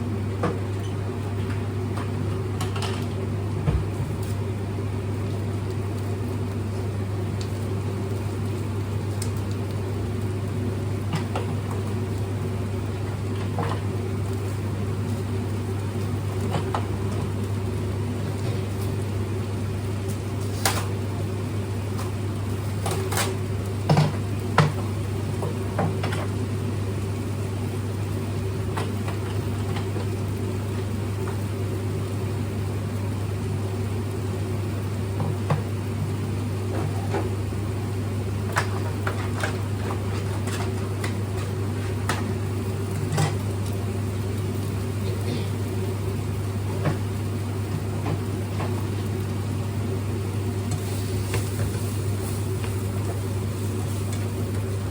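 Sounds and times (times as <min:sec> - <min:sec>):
steady mechanical hum: 0:00.0 - 0:54.9.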